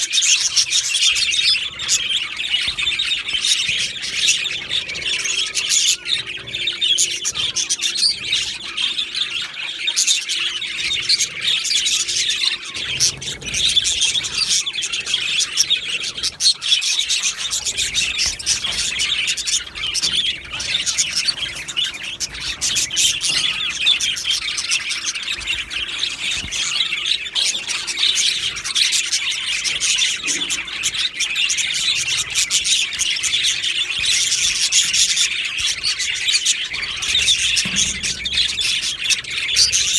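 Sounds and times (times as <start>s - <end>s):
bird squawk: 0.0s - 39.9s
budgerigars chirping and chattering: 0.0s - 39.9s.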